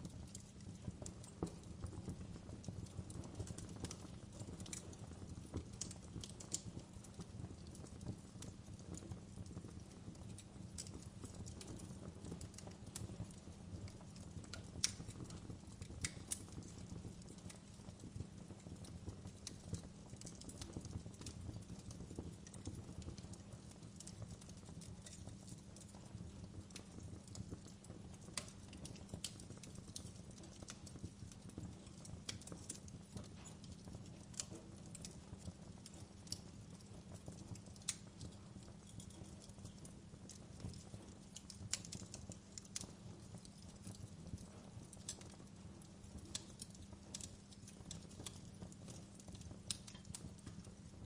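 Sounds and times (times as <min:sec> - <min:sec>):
fire crackling and popping: 0:00.0 - 0:51.0
fire low rumble: 0:00.0 - 0:51.0.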